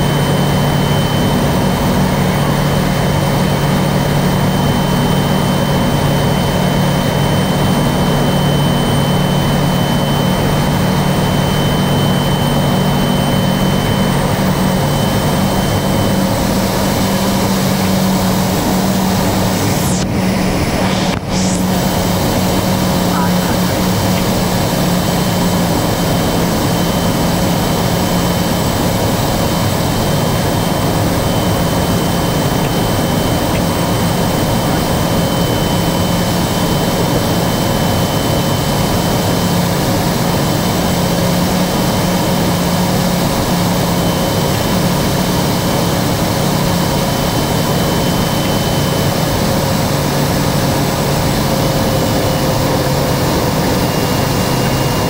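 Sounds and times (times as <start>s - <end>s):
high thin turbine whine: 0.0s - 55.0s
propeller drone: 0.0s - 55.0s.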